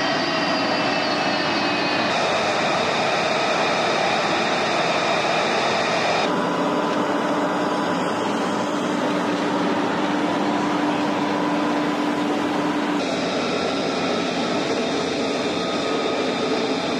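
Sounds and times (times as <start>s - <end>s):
jet engine running: 0.0s - 16.9s.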